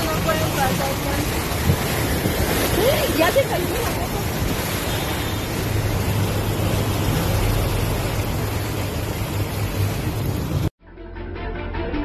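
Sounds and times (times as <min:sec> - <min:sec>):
floodwater rushing down street: 0:00.0 - 0:10.7.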